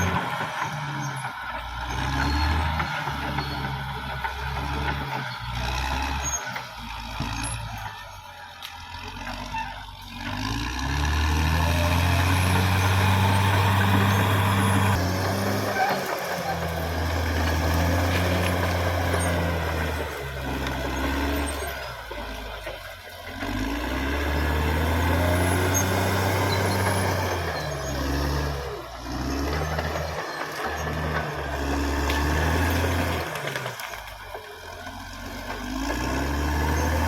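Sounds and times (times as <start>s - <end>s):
bulldozer diesel engine under load: 0.0s - 37.0s.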